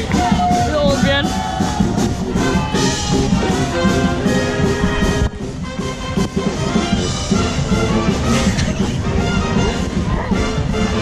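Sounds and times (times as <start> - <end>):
brass music over low beat: 0.0 - 11.0.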